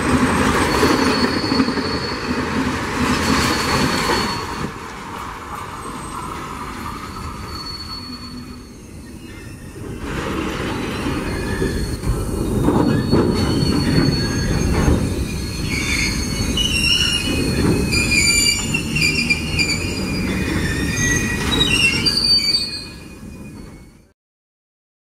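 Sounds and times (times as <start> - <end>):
train wheels rumbling on rails: 0.0 - 24.1
steel wheels squealing on rail: 0.0 - 24.2.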